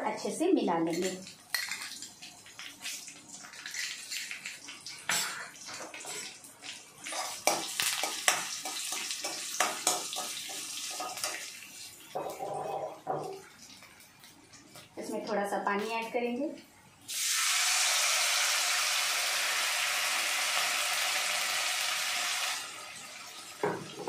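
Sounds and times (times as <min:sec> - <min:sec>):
frying hiss in hot oil: 0:00.0 - 0:24.0.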